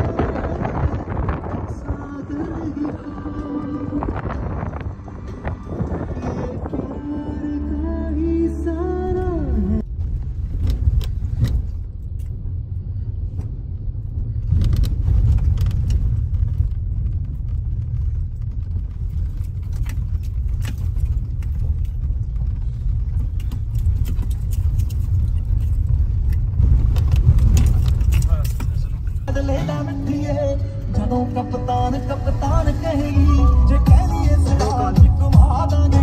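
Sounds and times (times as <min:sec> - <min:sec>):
car road rumble: 0:00.0 - 0:36.0.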